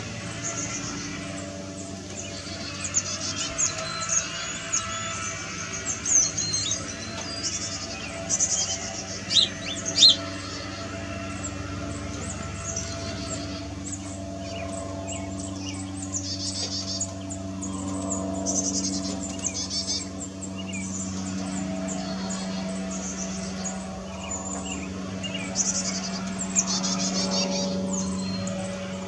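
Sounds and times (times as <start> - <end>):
chickadees chirping: 0.1 - 29.0.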